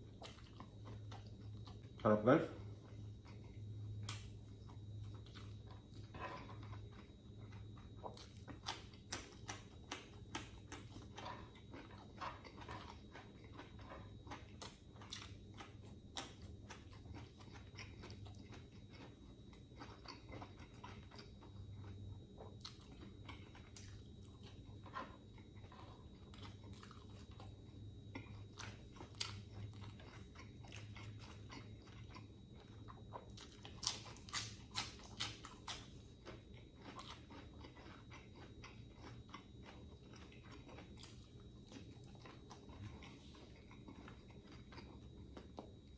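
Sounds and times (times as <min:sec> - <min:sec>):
faint low hum: 0:00.0 - 0:45.9
person chewing crunchy food: 0:00.0 - 0:45.9.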